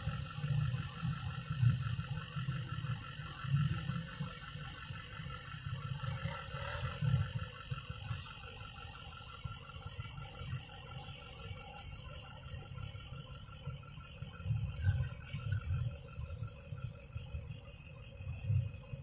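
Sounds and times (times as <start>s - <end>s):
faint dirt bike engine running: 0.0s - 19.0s.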